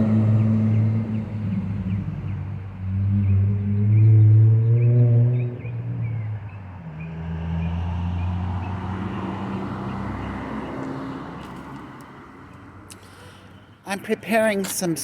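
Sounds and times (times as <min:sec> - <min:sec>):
motor vehicle passing: 0:00.0 - 0:12.9.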